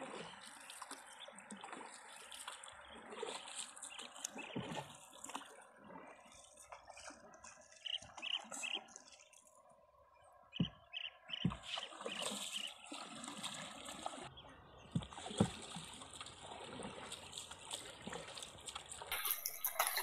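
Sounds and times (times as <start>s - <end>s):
paddle dipping in water: 0.0s - 20.0s
water splashing around hull: 0.0s - 20.0s.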